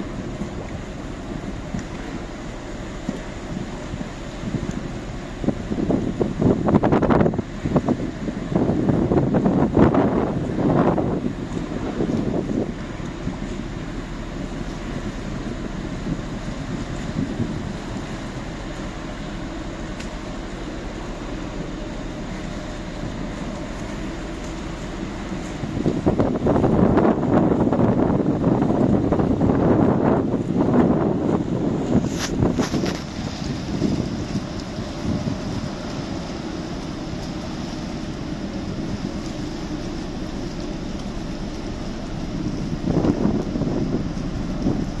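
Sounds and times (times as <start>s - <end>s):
ferry engine rumble: 0.0s - 45.0s
ship mechanical drone: 0.0s - 45.0s
water noise: 0.0s - 45.0s
wind: 0.0s - 45.0s.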